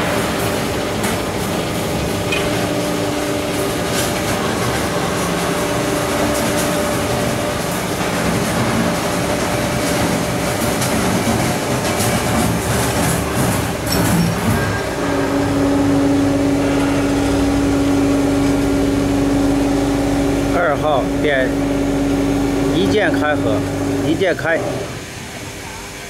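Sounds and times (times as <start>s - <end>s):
mechanical drone with tones: 0.0s - 25.0s.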